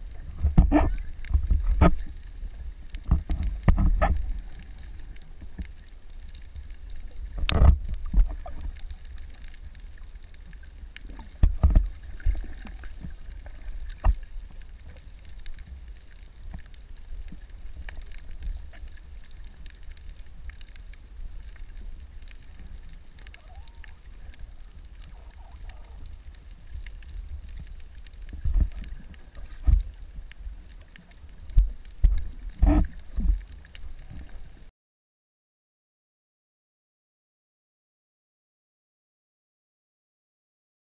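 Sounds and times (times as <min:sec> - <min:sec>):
low underwater rumble: 0:00.0 - 0:34.7.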